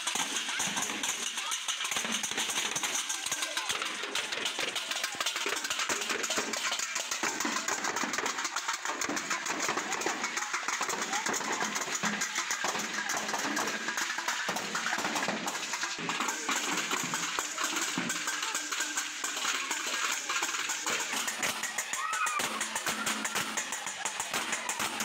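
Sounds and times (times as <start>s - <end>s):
sticks beating steel plates: 0.0s - 25.0s
children's voices: 0.1s - 25.0s.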